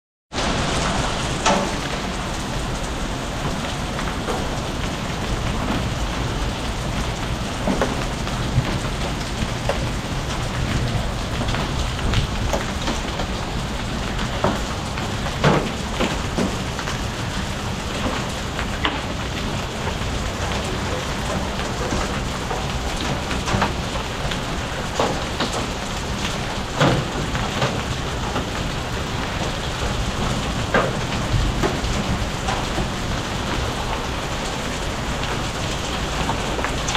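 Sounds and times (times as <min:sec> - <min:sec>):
rain falling steadily: 0:00.3 - 0:36.9
sharp raindrop impacts: 0:00.3 - 0:36.9.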